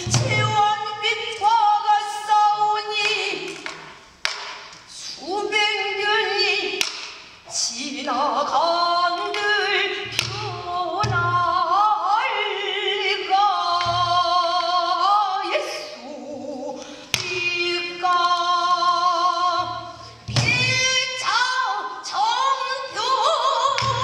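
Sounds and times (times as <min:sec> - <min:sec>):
woman singing with vibrato: 0:00.0 - 0:03.9, 0:04.9 - 0:24.0.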